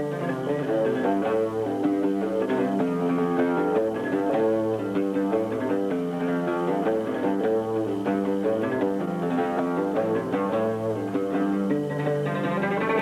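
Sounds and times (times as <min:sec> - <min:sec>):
instrumental music with steady beat: 0:00.0 - 0:13.0.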